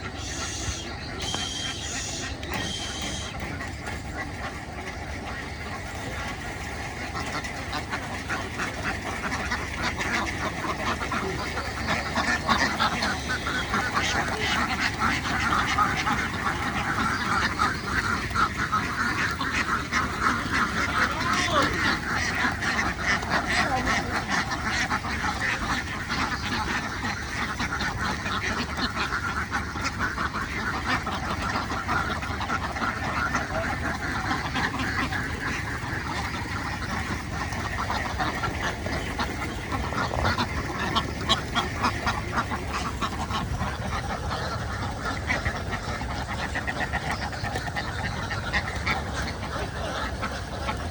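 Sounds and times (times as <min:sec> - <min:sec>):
ducks quacking: 0:00.0 - 0:50.9.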